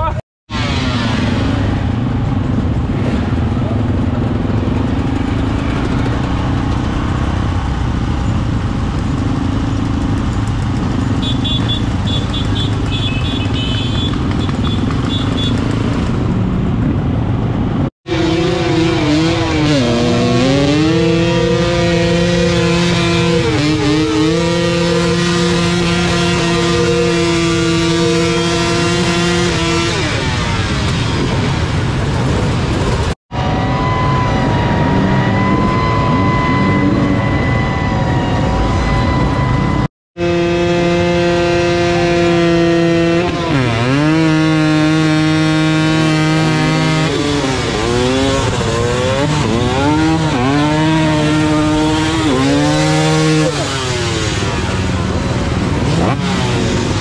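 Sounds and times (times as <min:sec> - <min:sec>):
dirt bike engine at high revs: 0:00.0 - 0:57.0
dirt bike engines idling and revving: 0:00.0 - 0:57.0.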